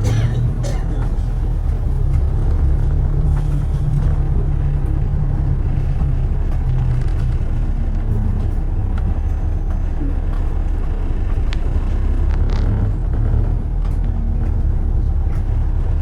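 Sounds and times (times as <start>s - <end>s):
city road traffic rumble: 0.0s - 16.0s.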